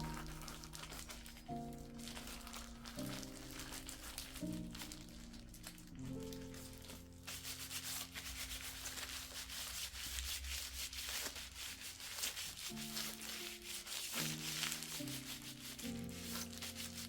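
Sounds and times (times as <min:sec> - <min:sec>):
scratchy rubbing sound: 0:00.0 - 0:17.0
soft background music: 0:00.0 - 0:17.0.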